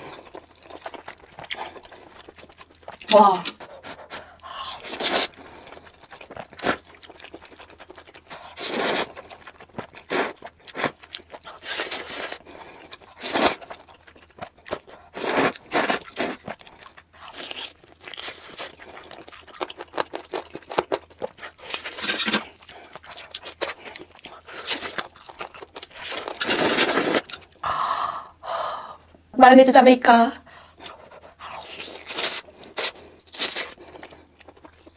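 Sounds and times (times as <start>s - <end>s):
slurping and chewing: 0.0s - 27.6s, 30.6s - 34.9s.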